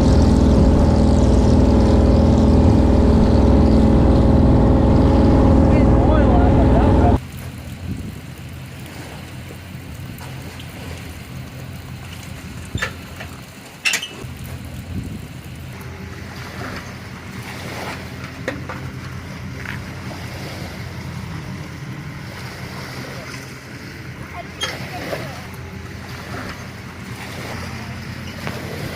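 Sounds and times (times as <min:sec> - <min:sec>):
boat engine idling: 0:00.0 - 0:28.9
water noise: 0:00.0 - 0:28.9
wind: 0:00.0 - 0:28.9.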